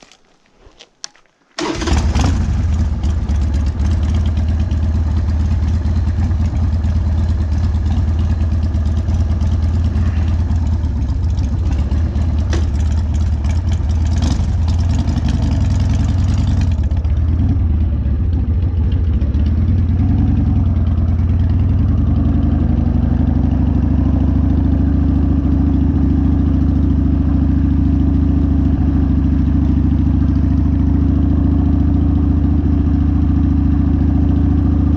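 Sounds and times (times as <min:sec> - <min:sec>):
motorcycle engine running loudly: 0:01.6 - 0:34.9.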